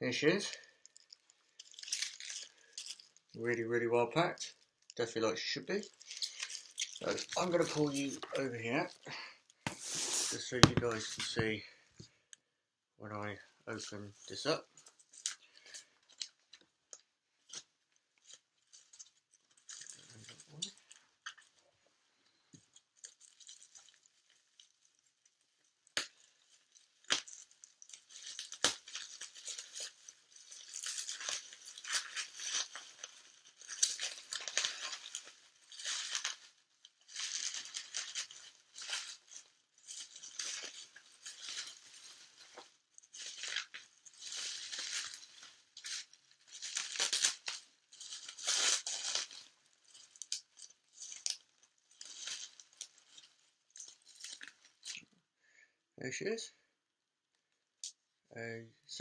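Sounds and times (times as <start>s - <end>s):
packing material rustling and tearing: 0.5s - 3.4s, 5.7s - 11.5s, 13.7s - 21.6s, 22.3s - 55.0s.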